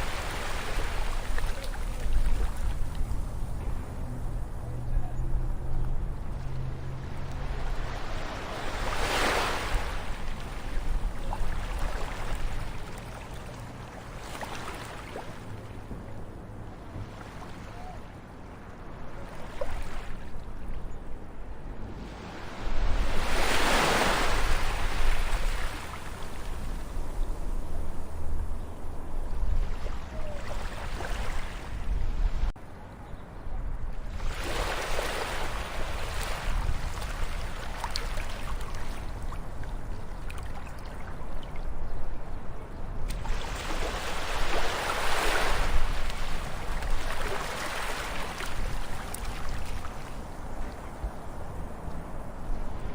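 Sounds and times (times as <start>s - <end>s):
ocean waves washing in: 0.0s - 4.6s, 5.5s - 20.6s, 21.4s - 32.6s, 34.0s - 41.2s, 43.1s - 52.9s.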